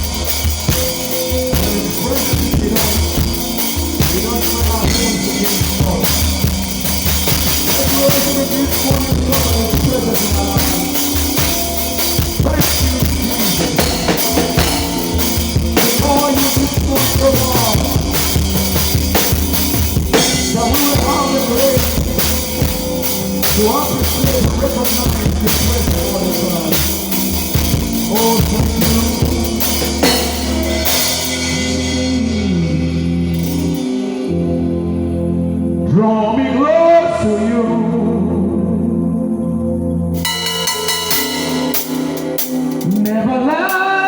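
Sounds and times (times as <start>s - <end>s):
busy drum kit: 0.0s - 34.2s, 40.2s - 44.0s
worship band instrumental groove: 0.0s - 35.8s, 40.0s - 44.0s.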